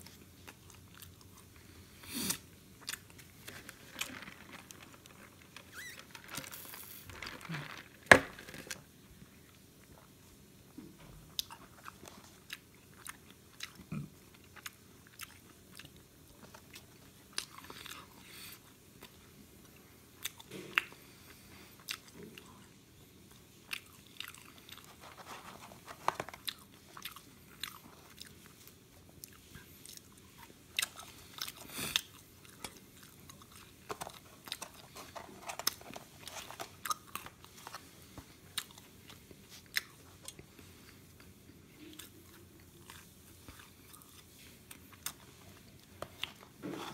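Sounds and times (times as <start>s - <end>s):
person chewing fries: 0.0s - 8.8s, 11.3s - 46.9s.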